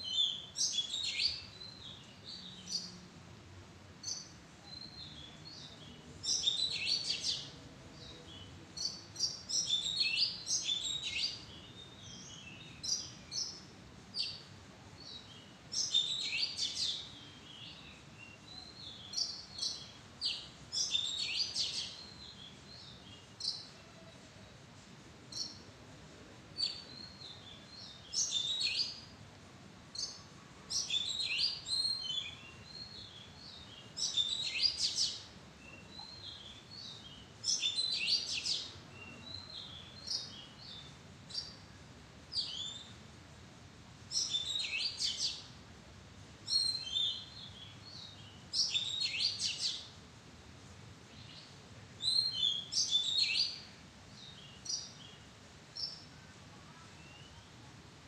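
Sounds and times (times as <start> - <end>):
bird singing whistled notes: 0.0 - 2.9, 4.0 - 7.5, 8.3 - 23.8, 26.6 - 29.1, 29.9 - 41.6, 42.3 - 43.0, 44.1 - 45.5, 46.5 - 49.9, 51.1 - 56.1, 57.0 - 57.5.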